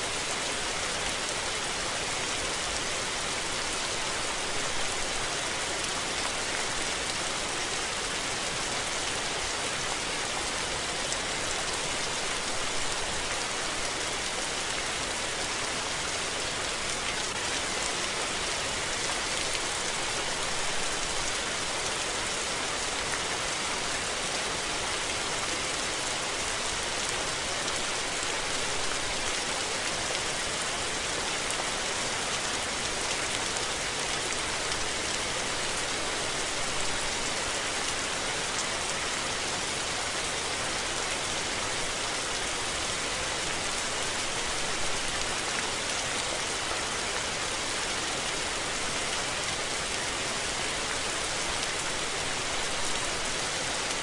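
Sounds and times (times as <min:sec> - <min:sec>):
rain pattering on surfaces: 0:00.1 - 0:54.0.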